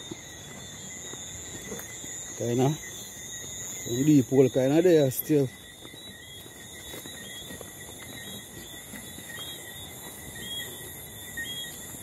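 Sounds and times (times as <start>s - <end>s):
insects trilling: 0.0s - 12.0s
short cricket chirps: 0.0s - 12.0s.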